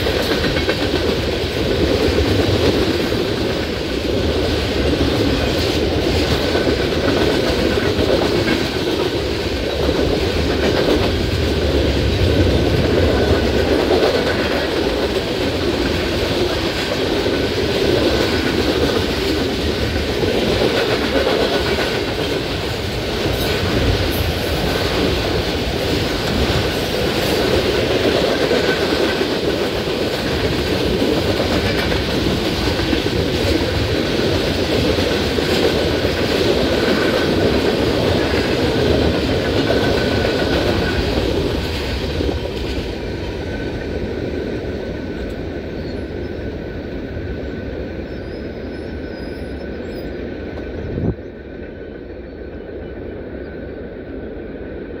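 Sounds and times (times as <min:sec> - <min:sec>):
train wheels clattering: 0:00.0 - 0:46.4.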